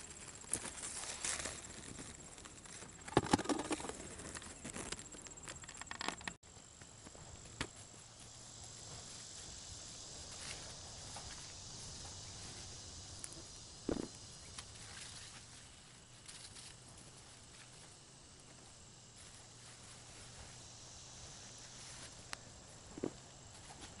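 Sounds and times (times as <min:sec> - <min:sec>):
quiet outdoor background: 0:00.0 - 0:24.0.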